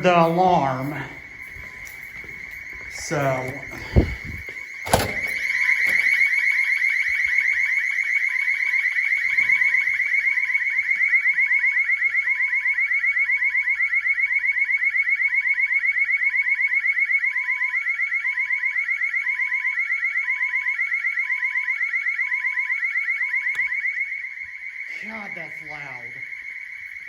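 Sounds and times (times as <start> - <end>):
high-pitched pulsing alarm siren: 0.0 - 27.0
two-pitch alarm beeps: 0.0 - 27.0.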